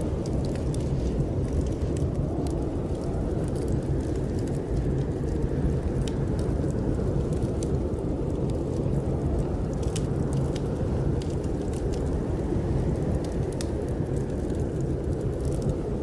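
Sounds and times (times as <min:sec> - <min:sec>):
snowstorm wind rushing: 0:00.0 - 0:16.0
wood fire crackling and popping: 0:00.0 - 0:16.0.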